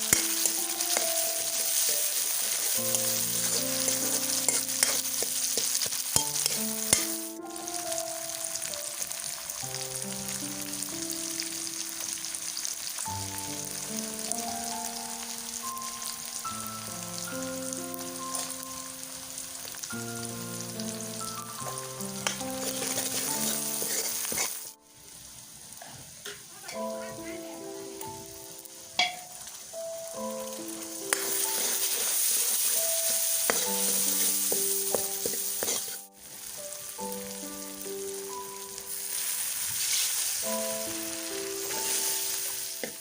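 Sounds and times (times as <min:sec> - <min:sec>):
soft background music: 0:00.0 - 0:25.0, 0:26.8 - 0:43.0
food sizzling in a pan: 0:00.0 - 0:43.0.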